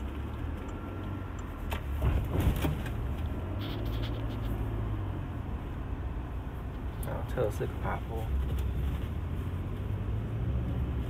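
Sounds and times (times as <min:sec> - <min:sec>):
engine and road drone: 0:00.0 - 0:11.0.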